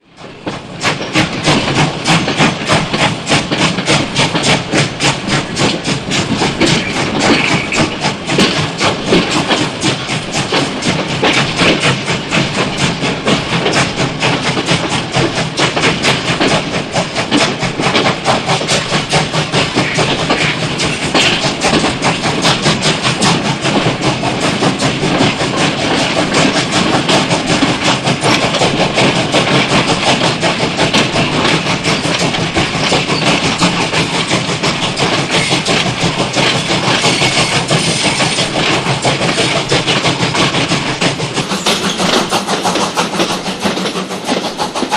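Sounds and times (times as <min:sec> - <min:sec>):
steam train chuffing and clattering: 0:00.0 - 0:44.9.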